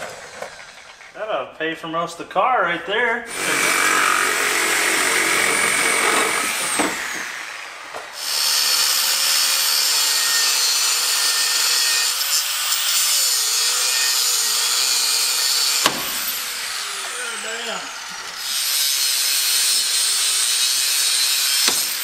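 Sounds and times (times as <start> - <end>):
angle grinder grinding steel: 3.3 - 22.0
power tool on steel: 3.3 - 22.0.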